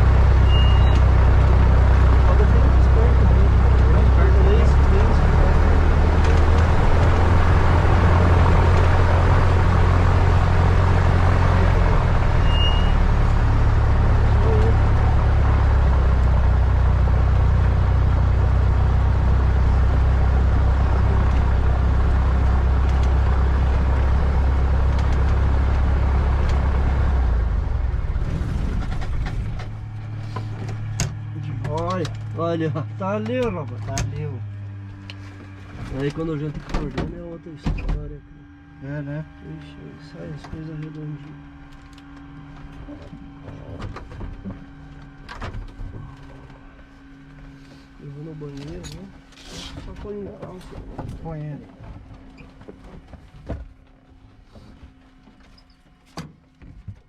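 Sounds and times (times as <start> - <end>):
light aircraft piston engine running: 0.0 - 56.6.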